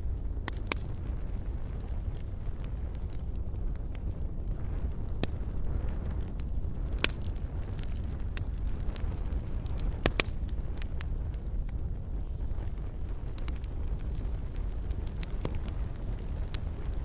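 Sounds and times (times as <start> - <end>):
fire pops and snaps: 0.0 - 17.0
low rumble of flames: 0.0 - 17.0.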